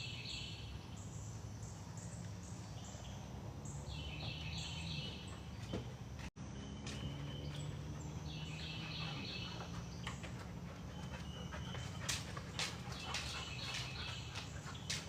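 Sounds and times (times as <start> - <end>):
birds chirping trills: 0.0 - 15.0.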